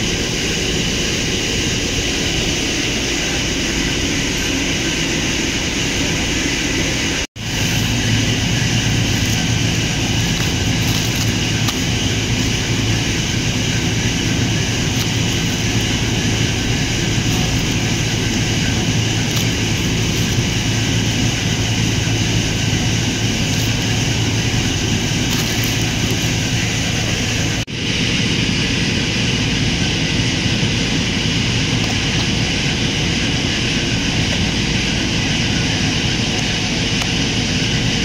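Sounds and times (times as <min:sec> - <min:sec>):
loud mechanical drone: 0:00.0 - 0:38.0.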